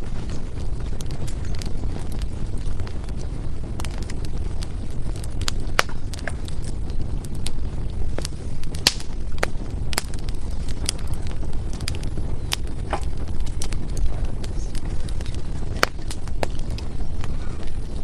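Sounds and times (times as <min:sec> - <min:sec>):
firewood crackling and popping: 0:00.0 - 0:18.0
low fire rumble: 0:00.0 - 0:18.0.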